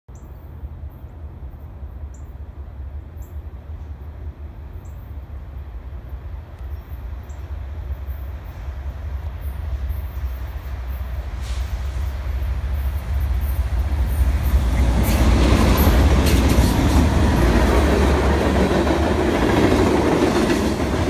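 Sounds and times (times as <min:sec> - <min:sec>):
diesel locomotive rumble: 0:00.7 - 0:21.0.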